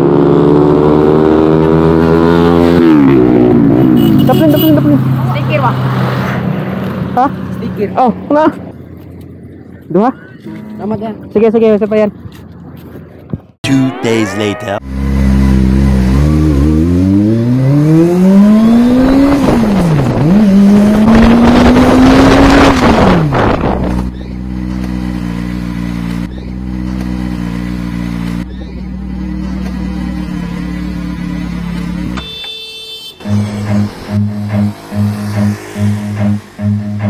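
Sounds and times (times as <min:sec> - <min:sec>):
motorcycle engine revving: 0:00.0 - 0:08.7, 0:14.8 - 0:32.3, 0:33.2 - 0:37.0.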